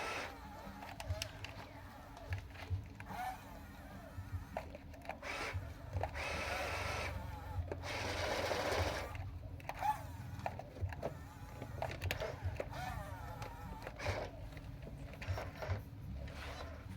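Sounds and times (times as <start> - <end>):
small electric motors whirring: 0.0 - 16.9.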